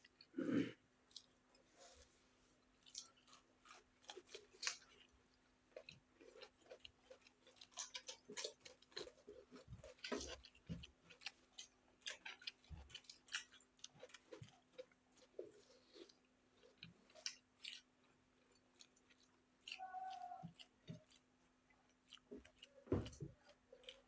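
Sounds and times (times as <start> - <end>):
people chewing food: 0.0 - 24.0.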